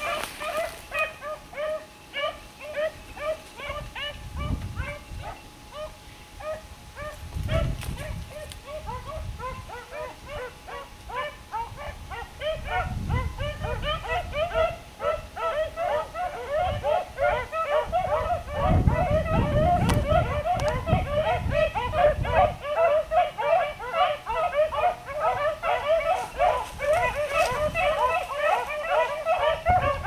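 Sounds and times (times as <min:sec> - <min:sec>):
canines yipping and yelping: 0:00.0 - 0:30.0.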